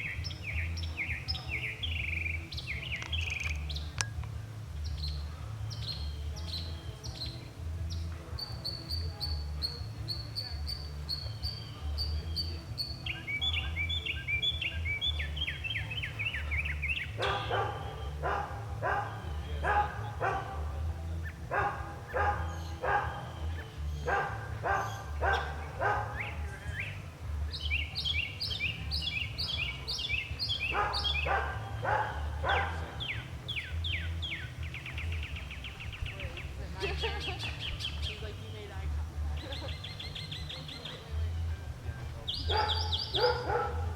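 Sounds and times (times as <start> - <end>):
mockingbird singing: 0.0 - 43.9.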